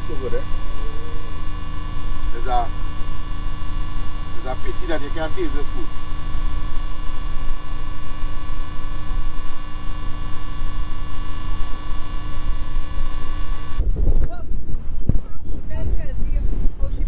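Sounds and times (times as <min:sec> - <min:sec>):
steady hum with overtones: 0:00.0 - 0:17.0.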